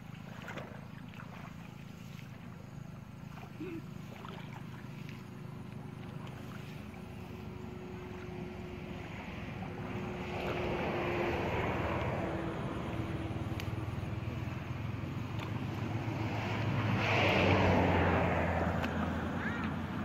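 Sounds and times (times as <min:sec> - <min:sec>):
faint steady hum: 0:00.0 - 0:16.9
water sloshing and splashing: 0:00.0 - 0:20.0.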